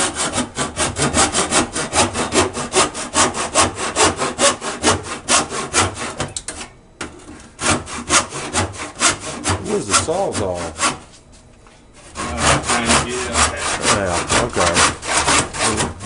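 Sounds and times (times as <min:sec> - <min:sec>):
hand saw cutting pipe: 0:00.0 - 0:06.6, 0:07.6 - 0:11.0, 0:12.0 - 0:16.0.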